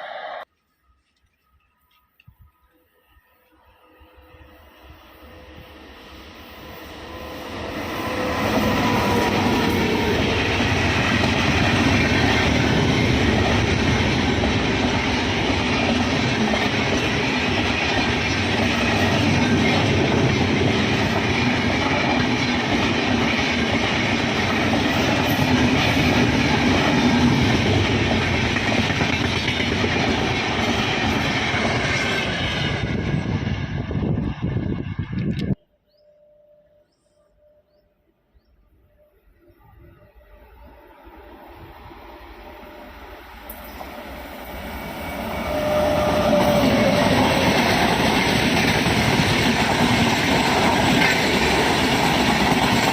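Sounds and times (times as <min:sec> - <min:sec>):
train passing at speed: 0:00.0 - 0:00.5, 0:02.8 - 0:35.6, 0:38.4 - 0:52.9.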